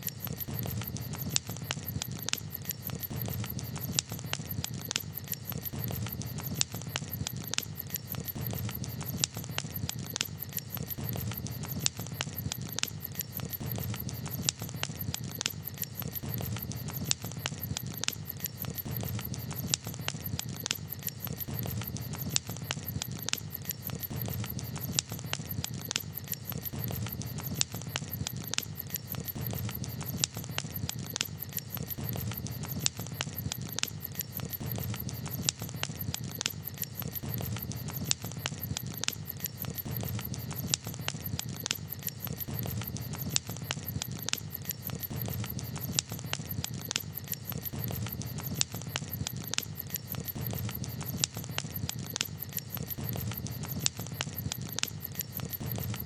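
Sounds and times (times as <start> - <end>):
campfire crackling and popping: 0.0 - 56.0
low rumble of fire: 0.0 - 56.0.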